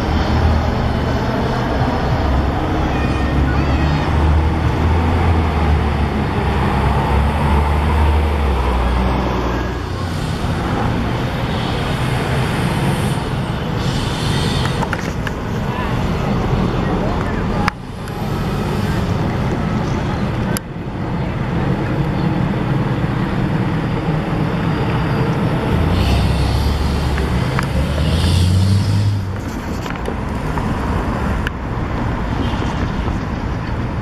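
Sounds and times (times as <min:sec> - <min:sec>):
vehicle rumble: 0:00.0 - 0:34.0.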